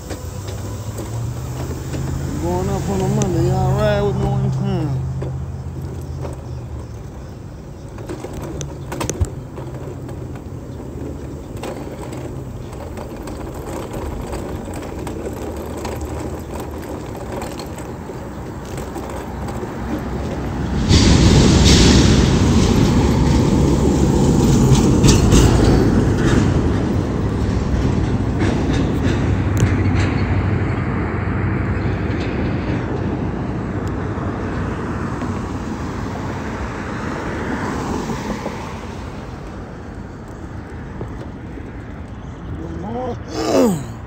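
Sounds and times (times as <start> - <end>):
rushing noise: 0.0 - 40.6
car road and engine noise: 0.0 - 44.0.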